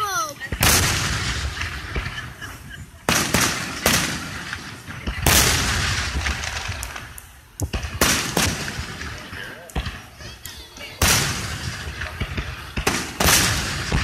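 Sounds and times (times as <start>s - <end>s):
fireworks bursting with booms: 0.0s - 14.0s.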